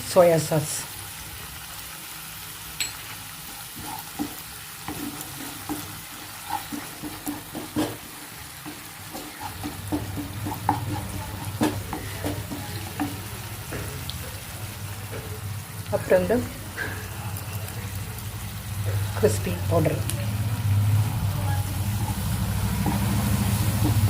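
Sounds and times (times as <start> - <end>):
onions sizzling in hot oil: 0.0 - 24.0
spoon stirring and scraping pan: 2.8 - 24.0.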